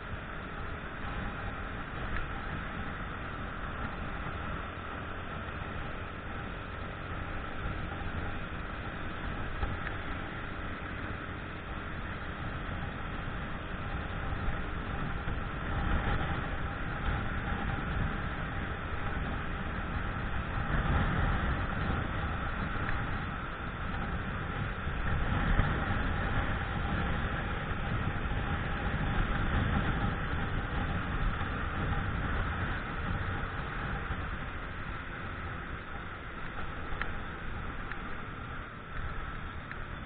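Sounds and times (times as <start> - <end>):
motorcycle engine: 0.0 - 40.0
wind rumbling on microphone: 0.0 - 40.0.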